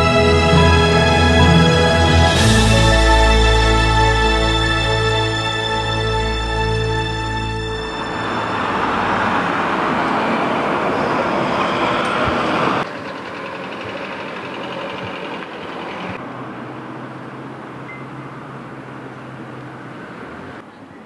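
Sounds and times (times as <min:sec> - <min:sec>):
passing road traffic: 0:00.0 - 0:21.0.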